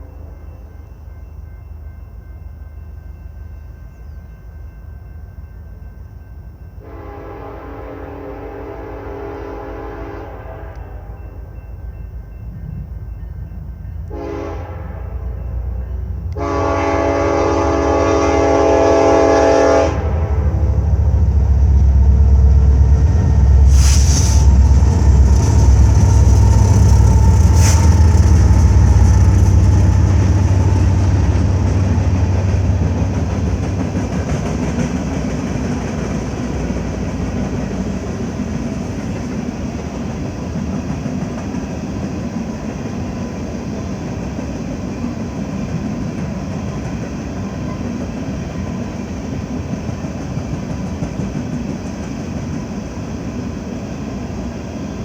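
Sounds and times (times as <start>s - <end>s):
diesel locomotives rumbling: 0.0s - 55.0s
train cars rolling on rails: 0.0s - 55.0s.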